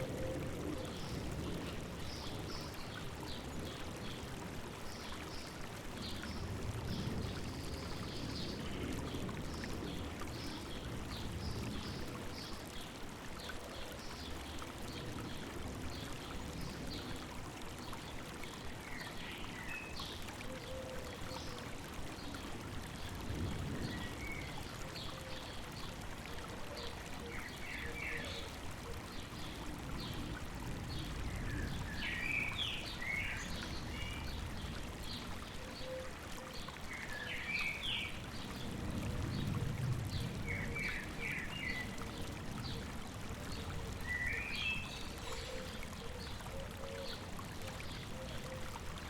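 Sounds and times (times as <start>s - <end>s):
river running: 0.0s - 49.0s.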